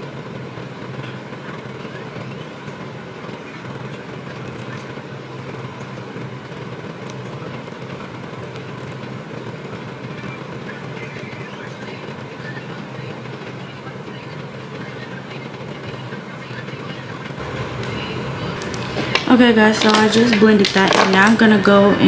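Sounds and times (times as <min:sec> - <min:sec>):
low hum: 0:00.0 - 0:22.0
room noise hiss: 0:00.0 - 0:22.0.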